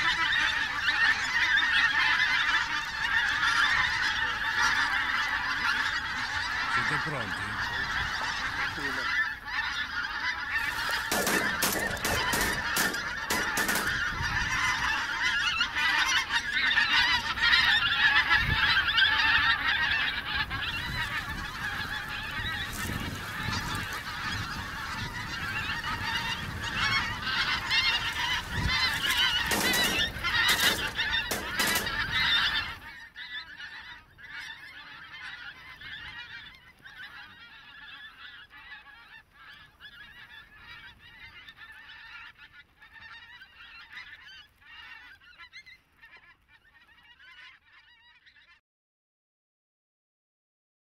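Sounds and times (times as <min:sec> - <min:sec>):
geese honking: 0:00.0 - 0:48.6.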